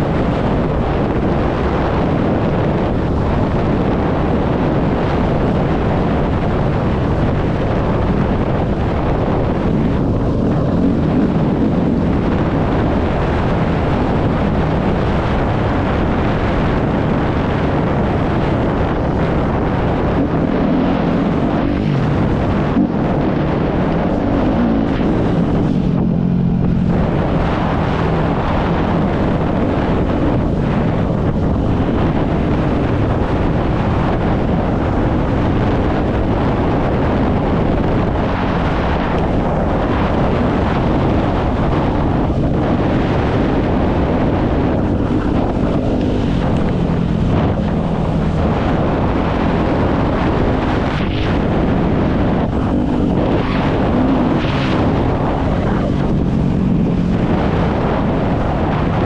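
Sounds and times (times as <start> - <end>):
dirt bike engine: 0.0 - 59.0
wind buffeting on microphone: 0.0 - 59.0.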